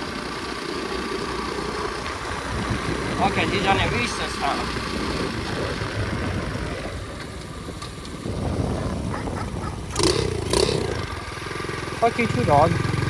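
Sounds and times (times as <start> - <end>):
pit bike engine running: 0.0 - 13.0.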